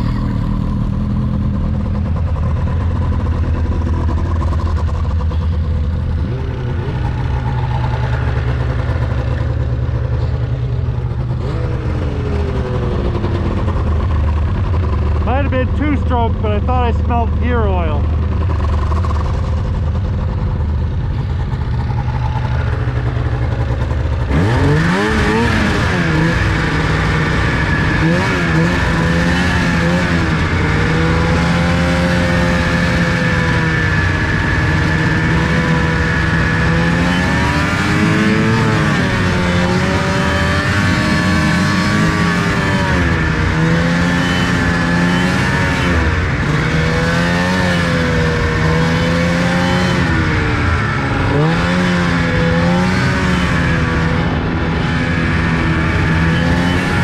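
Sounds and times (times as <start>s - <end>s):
two-stroke engine idling and revving: 0.0s - 57.0s.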